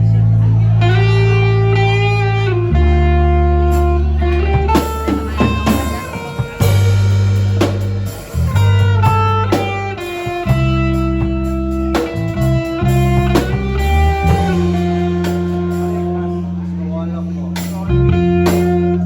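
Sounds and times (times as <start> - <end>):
guitar plucked notes: 0.0 - 19.0
held low bass notes: 0.0 - 19.0.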